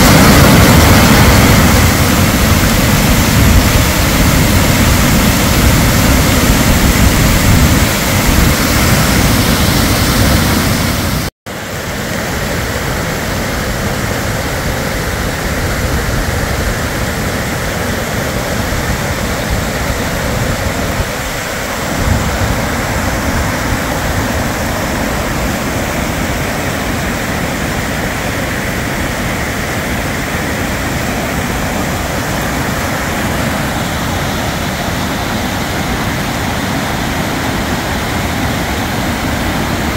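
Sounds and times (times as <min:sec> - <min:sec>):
floodwater pouring over road: 0:00.0 - 0:39.9
runoff water flowing: 0:00.0 - 0:39.9.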